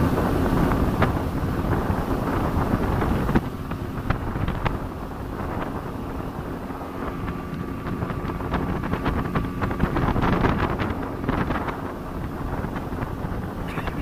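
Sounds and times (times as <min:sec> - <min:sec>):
speedboat engine hum: 0:00.0 - 0:14.0
wind buffeting microphone: 0:00.0 - 0:14.0.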